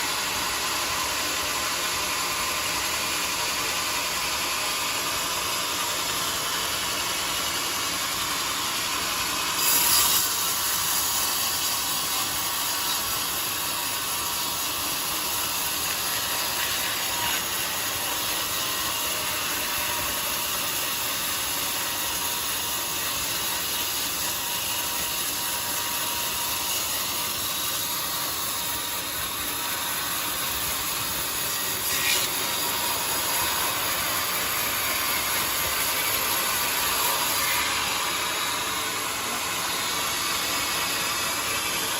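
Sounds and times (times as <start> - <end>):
bandsaw cutting a log: 0.0 - 41.9.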